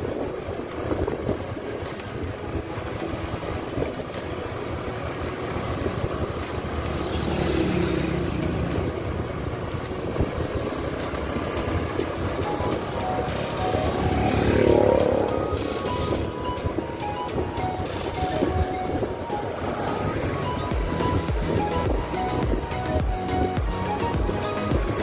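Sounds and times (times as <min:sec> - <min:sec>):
motorcycle engine cruising: 0:00.0 - 0:25.0
road and wind noise: 0:00.0 - 0:25.0.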